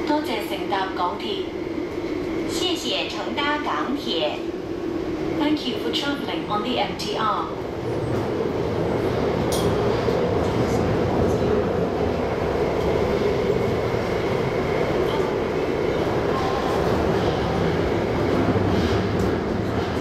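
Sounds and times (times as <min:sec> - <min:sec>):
train running on track: 0:00.0 - 0:20.0.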